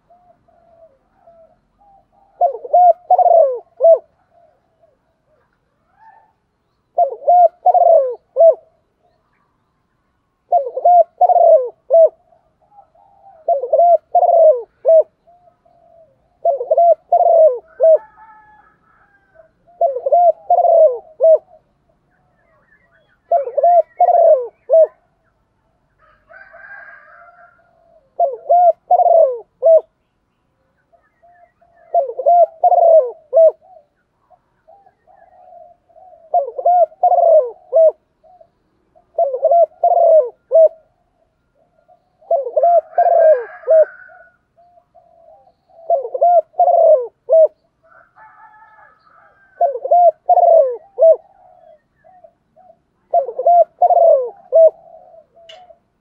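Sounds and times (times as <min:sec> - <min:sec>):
dove cooing: 0:00.0 - 0:09.6, 0:10.4 - 0:30.0, 0:30.8 - 0:56.0
faint bird chirps: 0:00.0 - 0:29.0, 0:29.8 - 0:56.0.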